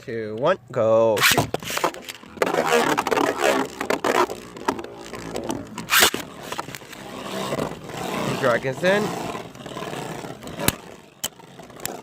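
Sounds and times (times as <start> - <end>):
spinning tops grinding and clashing: 1.2 - 12.0.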